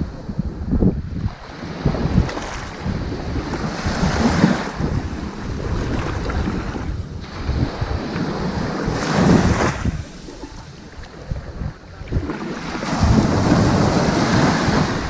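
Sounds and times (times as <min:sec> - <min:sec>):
ocean waves on beach: 0:00.0 - 0:15.0
wind buffeting microphone: 0:00.0 - 0:15.0.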